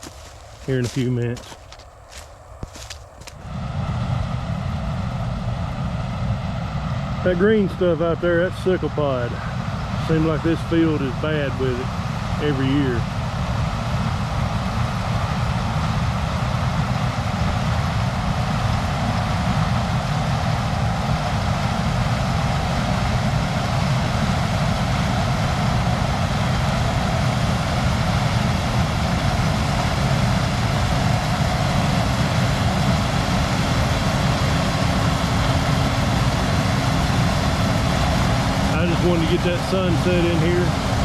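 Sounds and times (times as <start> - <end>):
farm machinery engine droning: 0.0 - 41.0.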